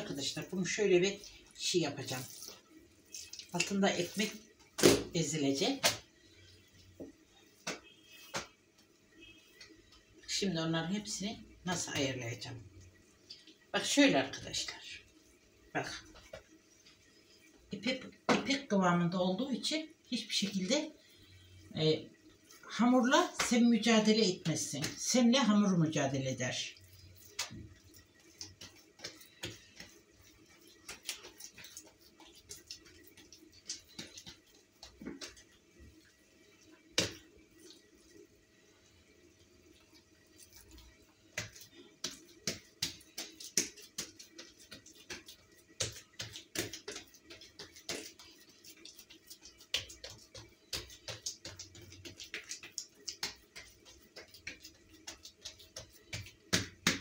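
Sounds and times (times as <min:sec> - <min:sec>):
hands rolling dough on tabletop: 0:00.0 - 0:21.4, 0:22.2 - 0:57.0.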